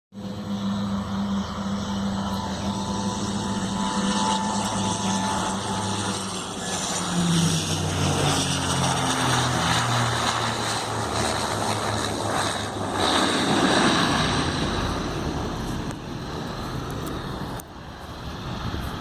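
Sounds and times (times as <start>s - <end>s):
turboprop propeller drone: 0.1s - 19.0s.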